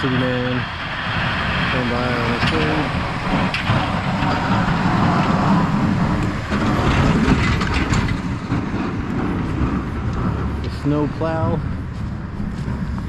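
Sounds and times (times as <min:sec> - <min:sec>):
snowplow truck driving past: 0:00.0 - 0:13.0
tyres on snowy road: 0:00.0 - 0:13.0.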